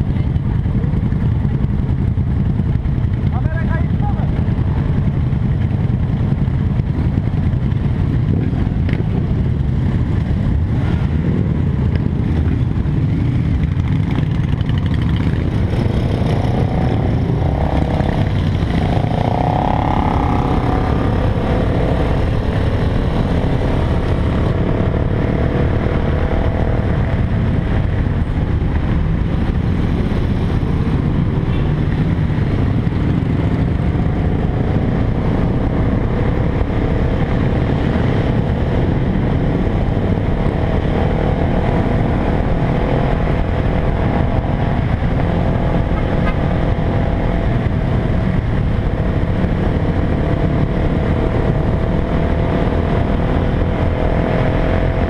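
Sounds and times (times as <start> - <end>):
motorcycle engines running: 0.0 - 55.0.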